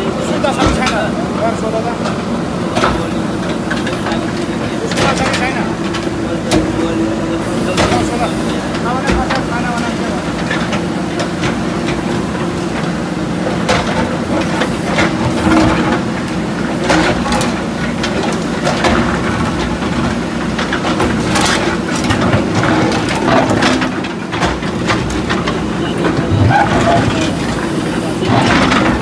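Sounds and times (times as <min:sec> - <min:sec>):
diesel engines running: 0:00.0 - 0:29.0.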